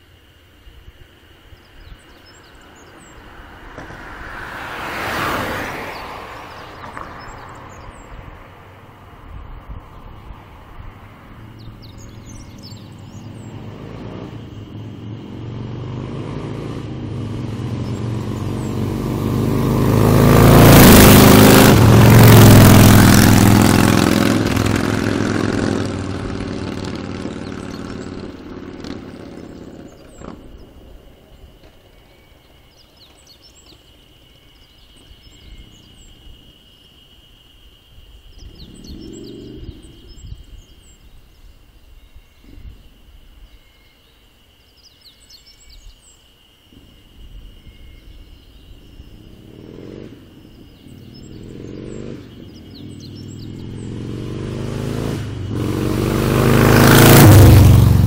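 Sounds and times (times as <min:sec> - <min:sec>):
motorcycles passing at speed: 0:01.9 - 0:36.6, 0:38.3 - 0:41.0, 0:48.0 - 0:58.0.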